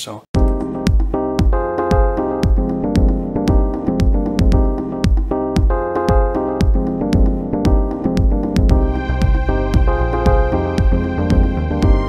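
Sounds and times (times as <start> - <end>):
keyboard and synthesizer chords: 0.4 - 12.0
low thumping beat: 0.4 - 12.0.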